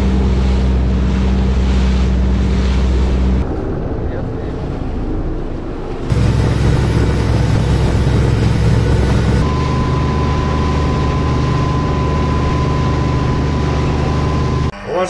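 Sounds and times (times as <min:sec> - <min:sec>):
boat engine running: 0:00.0 - 0:15.0
water noise: 0:00.0 - 0:15.0
wind: 0:00.0 - 0:15.0.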